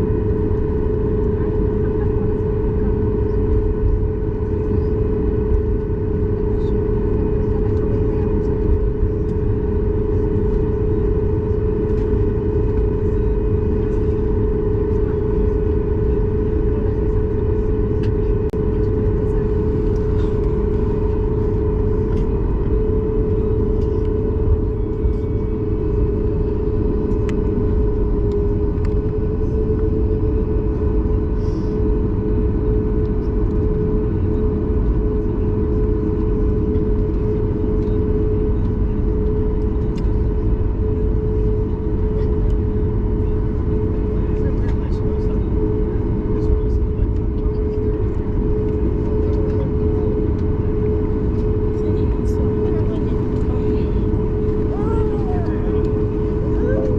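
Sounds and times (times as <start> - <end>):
jet engines rumbling in cabin: 0.0 - 56.9.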